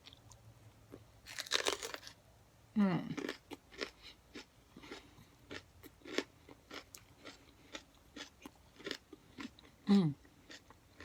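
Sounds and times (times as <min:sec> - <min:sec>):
person chewing crunchy pepper: 0:00.0 - 0:02.2, 0:03.0 - 0:11.0.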